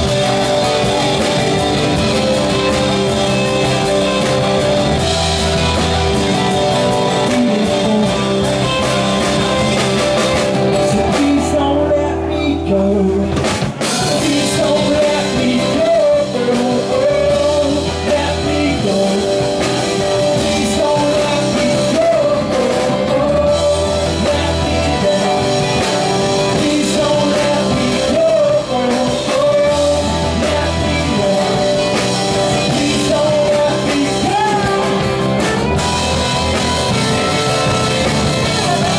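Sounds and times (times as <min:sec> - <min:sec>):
acoustic guitar: 0:00.0 - 0:38.9
drum kit: 0:00.0 - 0:38.9
electric guitars: 0:00.0 - 0:38.9
man singing: 0:05.0 - 0:38.9.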